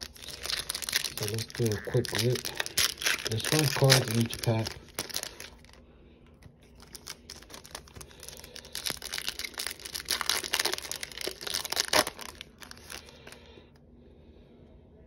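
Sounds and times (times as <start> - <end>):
foil pack crinkling and tearing: 0.0 - 5.8, 6.4 - 13.5.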